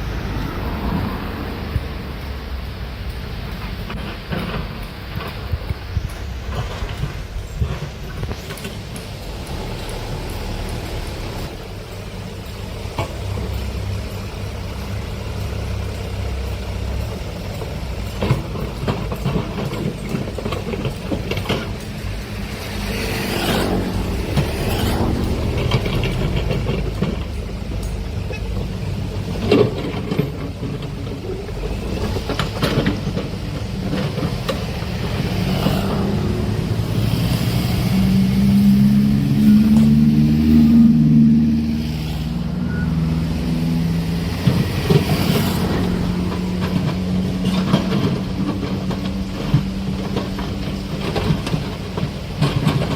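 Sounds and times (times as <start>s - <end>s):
diesel engine under load: 0.0s - 52.9s
metal bucket and tracks clanking: 3.1s - 52.9s.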